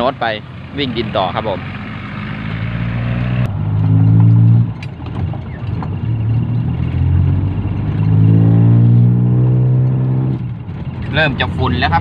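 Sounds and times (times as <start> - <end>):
truck diesel engine: 0.0 - 12.0.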